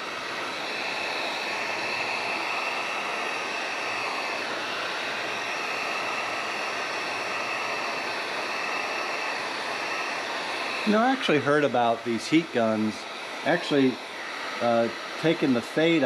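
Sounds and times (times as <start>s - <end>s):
heat gun blowing air: 0.0s - 16.0s
heat gun thin whine: 0.0s - 16.0s.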